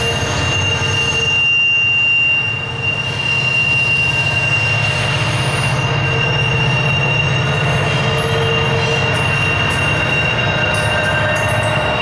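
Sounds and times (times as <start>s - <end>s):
train cars rumbling: 0.0s - 12.0s
wheel flanges squealing on rail: 0.0s - 12.0s.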